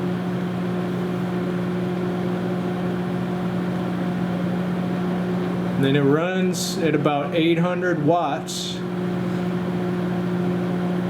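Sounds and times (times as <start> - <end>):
cooling fan whirring: 0.0 - 11.0
microwave oven humming: 0.0 - 11.0.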